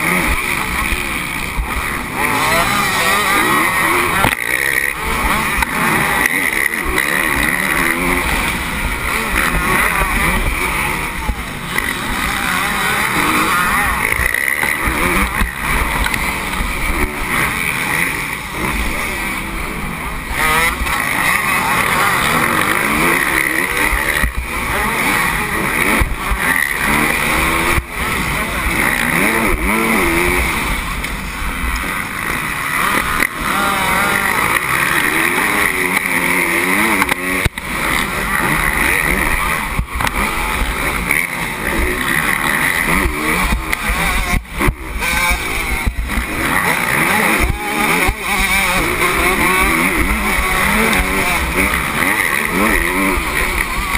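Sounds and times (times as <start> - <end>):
motocross bike engine revving: 0.0 - 53.9
other dirt bikes running: 0.0 - 53.9.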